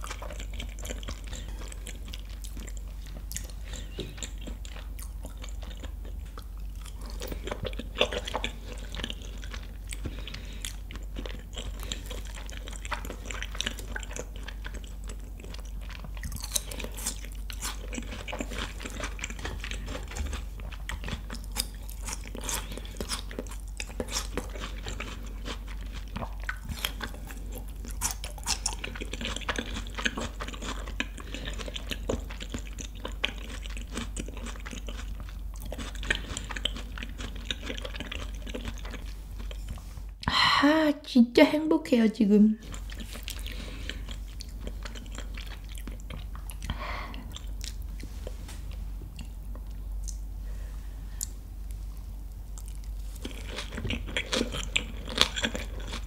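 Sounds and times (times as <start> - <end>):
close chewing: 0.0 - 39.9, 42.6 - 50.2, 51.2 - 56.0.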